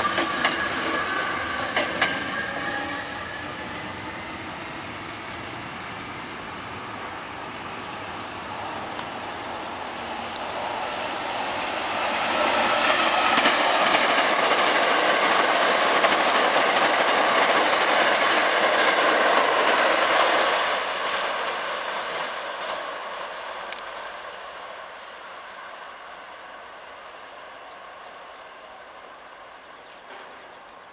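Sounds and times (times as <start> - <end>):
electric train passing at speed: 0.0 - 30.9.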